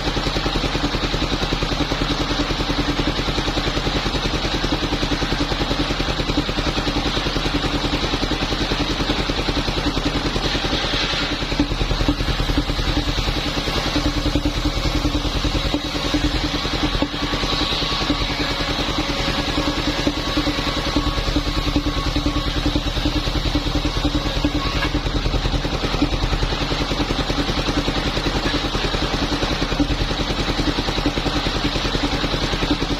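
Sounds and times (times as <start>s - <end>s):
small petrol saw engine running: 0.0s - 32.9s.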